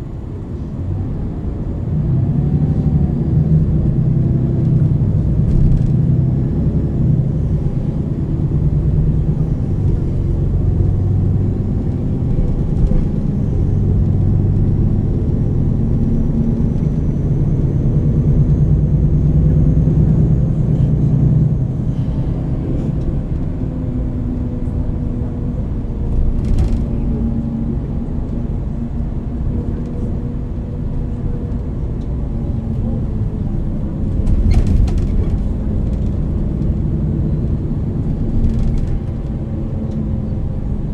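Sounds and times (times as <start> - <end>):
bus engine rising and falling: 0.0 - 40.9.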